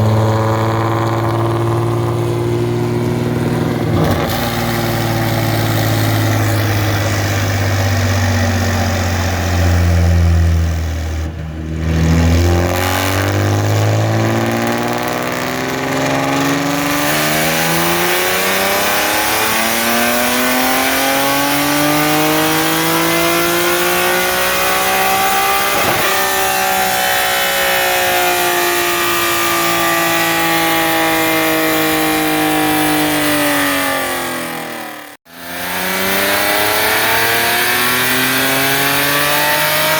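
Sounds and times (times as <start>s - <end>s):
car engine revving on dyno: 0.0s - 39.9s.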